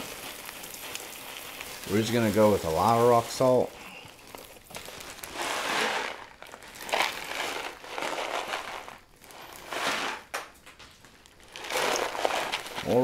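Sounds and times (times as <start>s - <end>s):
rock salt pouring onto ice: 0.0s - 10.5s, 11.2s - 13.0s
plastic bag crinkling: 0.0s - 13.0s.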